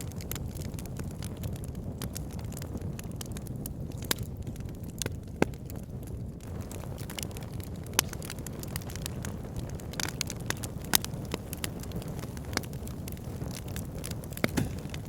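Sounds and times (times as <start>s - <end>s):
logs crackling and popping: 0.0s - 15.0s
low roar of flame: 0.0s - 15.0s.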